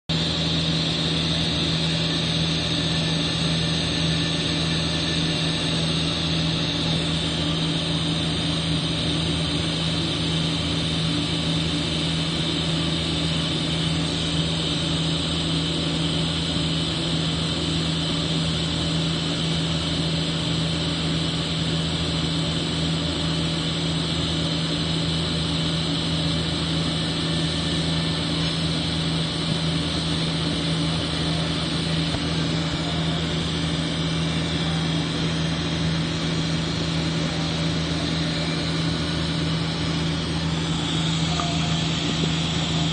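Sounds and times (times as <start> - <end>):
welding arc buzzing hiss: 0.1 - 42.9.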